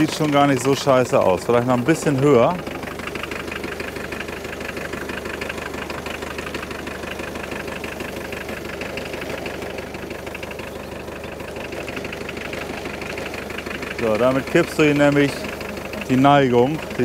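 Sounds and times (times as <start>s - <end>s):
diesel tractor engine idling: 0.0s - 17.0s.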